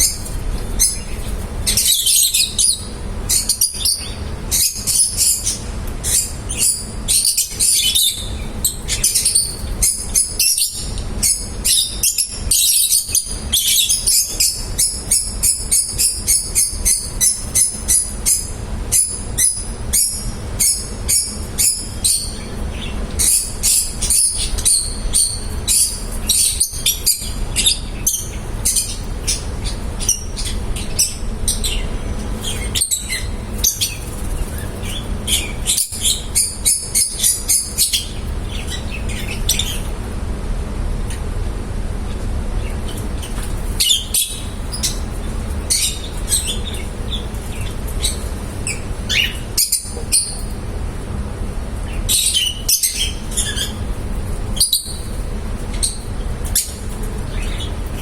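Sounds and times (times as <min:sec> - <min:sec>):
parrots chirping: 0:00.0 - 0:40.0, 0:42.6 - 0:50.8, 0:51.7 - 0:58.0
steady low hum: 0:00.0 - 0:58.0.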